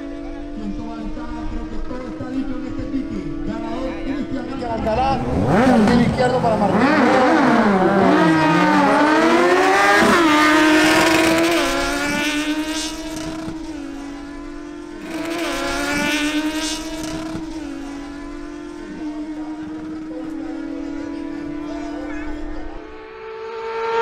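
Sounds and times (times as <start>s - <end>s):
motorcycles revving and accelerating: 0.0s - 24.0s.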